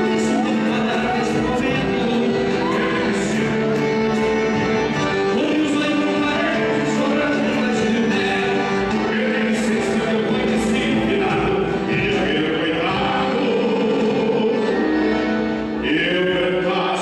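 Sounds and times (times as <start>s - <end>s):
folk music with singing: 0.0s - 17.0s.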